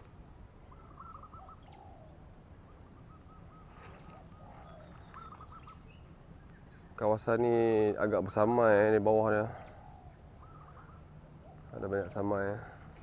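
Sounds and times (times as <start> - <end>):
bird calls: 0.0 - 13.0.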